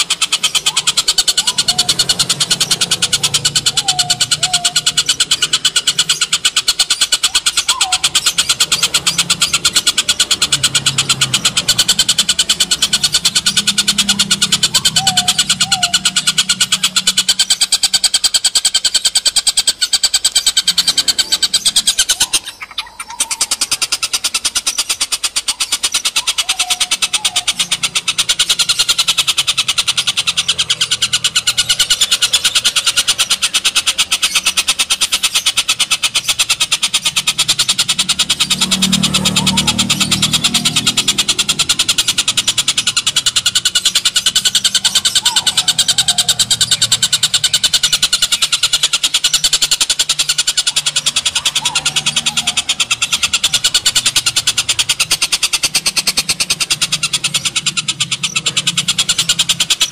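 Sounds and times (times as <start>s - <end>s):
bird cackling call: 0.0s - 59.9s.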